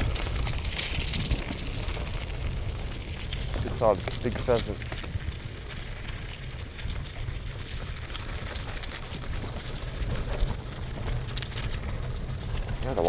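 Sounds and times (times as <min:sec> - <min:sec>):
bicycle clicks and rattles: 0:00.0 - 0:13.0
wind rumbling on microphone: 0:00.0 - 0:13.0.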